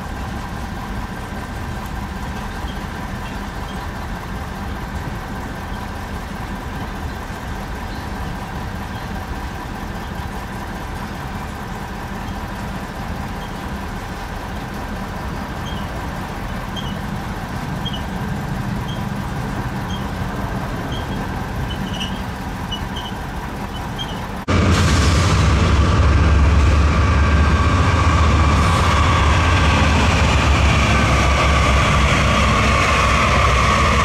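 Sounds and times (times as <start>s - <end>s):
diesel locomotive leading a train: 0.0s - 34.0s
diesel locomotives idling: 0.0s - 34.0s.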